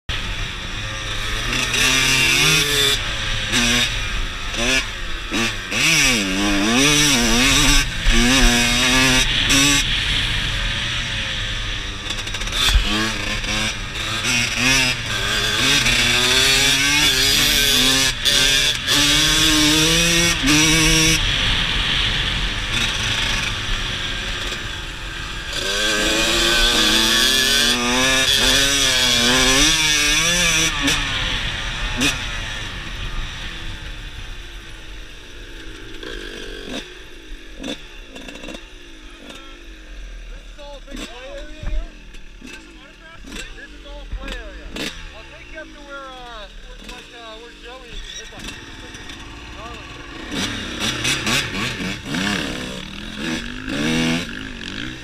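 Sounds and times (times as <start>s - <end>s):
dirt bike engine revving: 0.1s - 55.0s.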